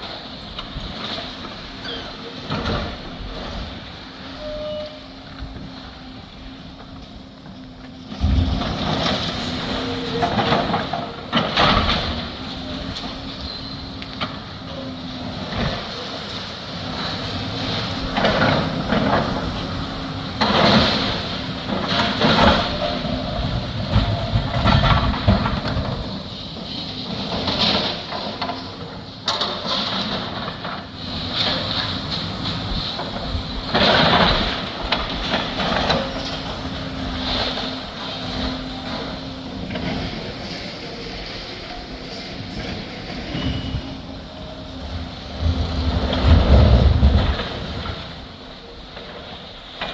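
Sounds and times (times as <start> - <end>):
machinery engine hum: 0.0 - 49.9.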